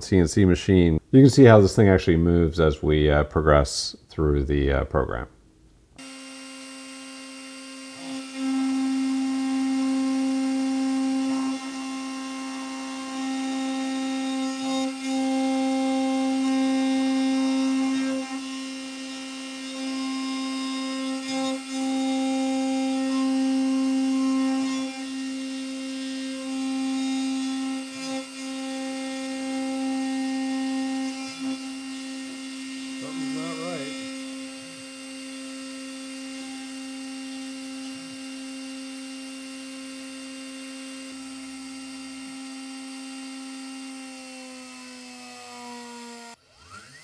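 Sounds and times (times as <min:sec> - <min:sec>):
milling spindle whining: 0:06.0 - 0:47.0.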